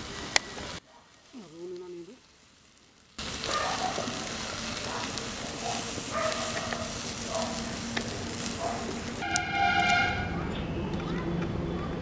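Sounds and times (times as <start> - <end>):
vegetables sizzling: 0.0 - 10.4.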